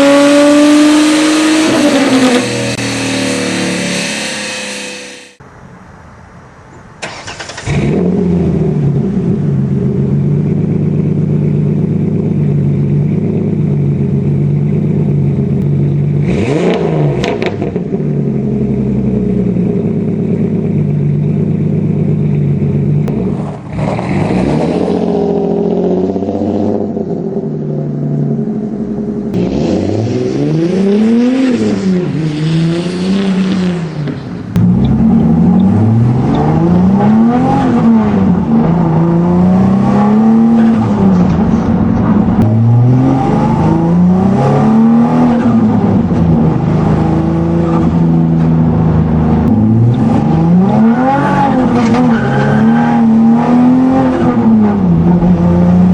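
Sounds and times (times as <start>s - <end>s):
car engine revving: 0.0s - 5.4s, 7.1s - 55.9s
car engine starting and idling: 6.9s - 30.1s, 34.1s - 55.9s.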